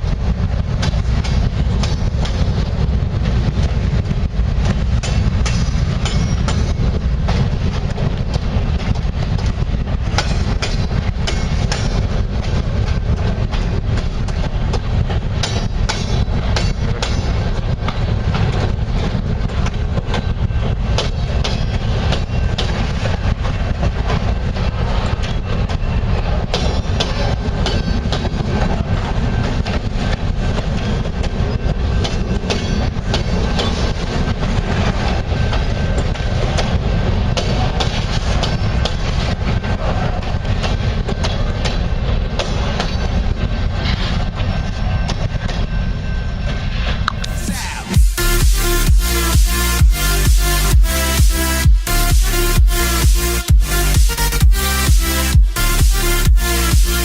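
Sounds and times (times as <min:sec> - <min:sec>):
train wheels clattering over rail joints: 0:00.0 - 0:46.9
low train rumble: 0:00.0 - 0:57.0.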